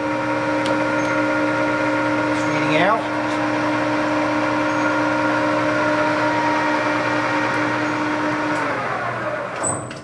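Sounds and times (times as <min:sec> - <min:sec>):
lathe running with gear whine: 0:00.0 - 0:09.8.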